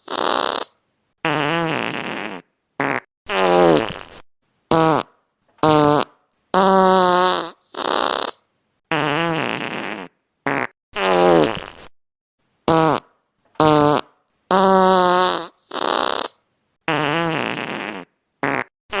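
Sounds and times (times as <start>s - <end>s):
fart sound effects: 0.0s - 11.9s, 12.7s - 19.0s.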